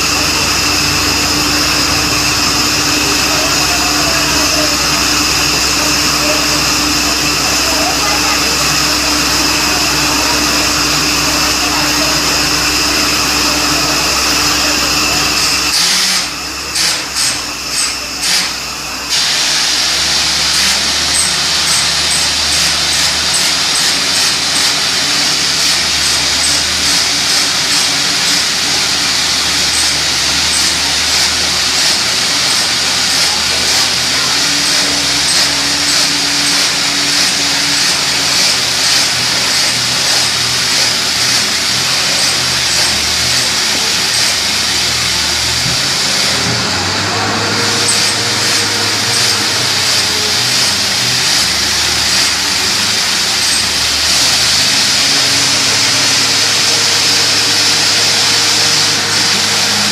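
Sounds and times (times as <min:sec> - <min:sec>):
drilling rig running with hiss: 0:00.0 - 0:59.9.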